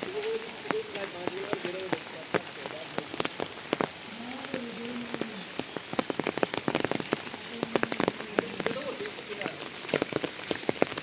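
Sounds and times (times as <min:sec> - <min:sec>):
heavy rain falling: 0:00.0 - 0:11.0
raindrops ticking: 0:00.0 - 0:11.0.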